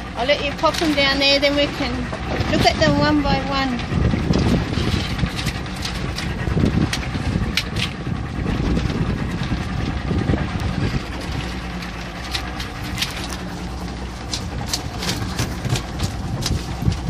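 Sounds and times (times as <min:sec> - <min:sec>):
boat engine idling: 0:00.0 - 0:17.0
wind buffeting microphone: 0:00.0 - 0:17.0.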